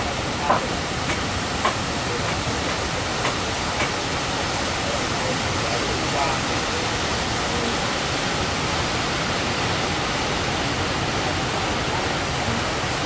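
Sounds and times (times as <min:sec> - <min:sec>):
heavy surf breaking: 0:00.0 - 0:13.0.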